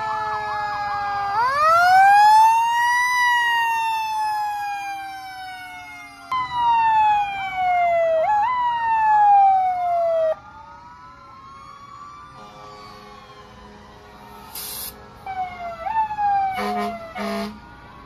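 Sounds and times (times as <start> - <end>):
fire truck sirens wailing: 0.0 - 18.0
vehicle noise: 3.4 - 18.0.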